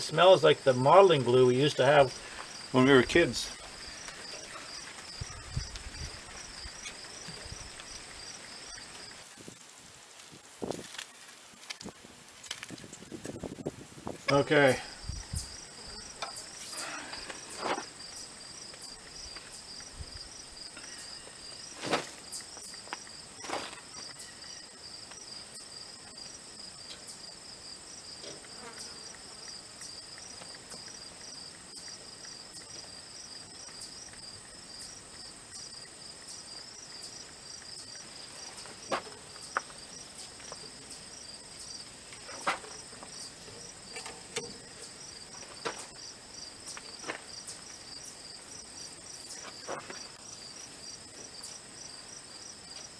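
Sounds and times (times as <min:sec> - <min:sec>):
crickets chirping: 0:00.0 - 0:52.9
high insect hum: 0:00.0 - 0:52.9.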